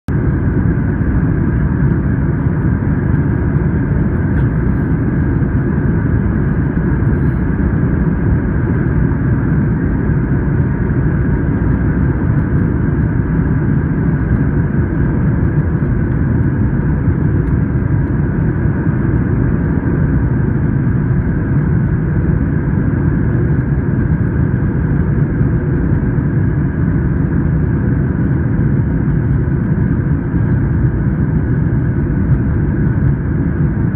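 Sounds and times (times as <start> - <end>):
airplane cabin engine rumble: 0.1 - 33.9
steady whining tones: 0.1 - 33.9.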